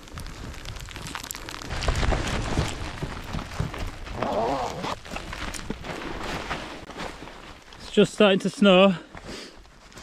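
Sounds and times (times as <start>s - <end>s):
footsteps crunching in snow: 0.0s - 10.0s.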